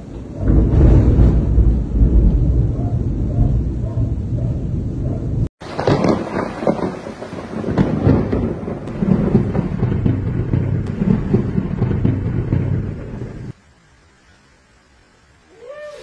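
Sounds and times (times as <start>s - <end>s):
steady rain: 0.0s - 3.9s, 5.6s - 16.0s
thunder rumbling and crackling: 0.0s - 13.6s.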